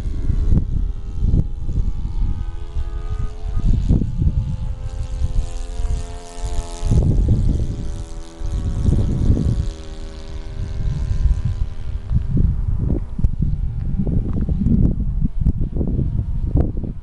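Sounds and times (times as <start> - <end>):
model airplane engine running: 0.0 - 17.0
wind buffeting the microphone: 0.0 - 17.0.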